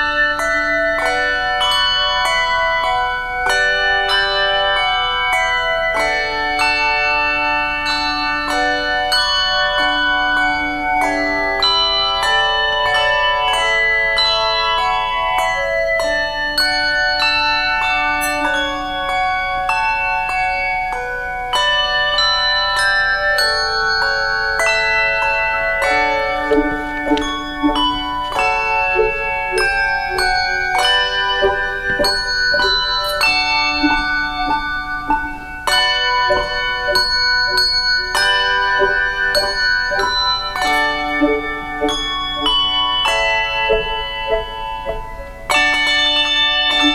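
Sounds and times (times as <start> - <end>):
handbell choir playing chords: 0.0 - 46.9.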